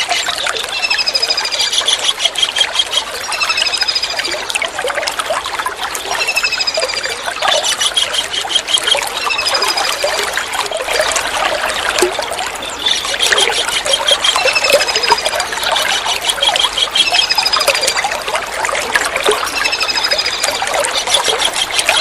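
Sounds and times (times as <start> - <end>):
trickling water: 0.0 - 22.0.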